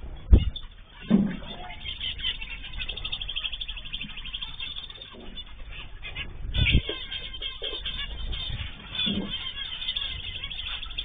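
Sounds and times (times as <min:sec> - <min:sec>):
cage birds chirping: 0:00.0 - 0:11.0.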